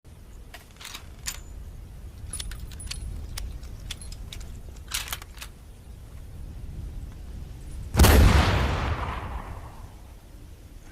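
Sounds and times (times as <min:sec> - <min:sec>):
steady low rumble: 0:00.1 - 0:10.9.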